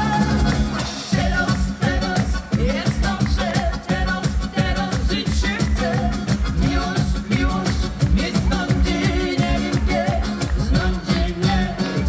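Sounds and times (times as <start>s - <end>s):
electric upright bass: 0.0s - 12.0s
percussive beat: 0.0s - 12.0s
woman singing: 0.0s - 12.0s.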